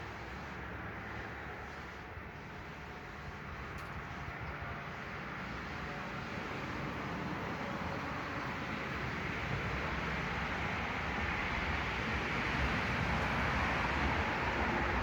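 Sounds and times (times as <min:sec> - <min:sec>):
passing vehicle hiss and rumble: 0:00.0 - 0:15.0.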